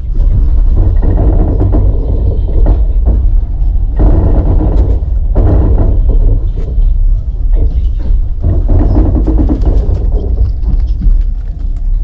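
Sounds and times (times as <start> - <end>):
low rumble of moving vehicle: 0.0 - 12.0.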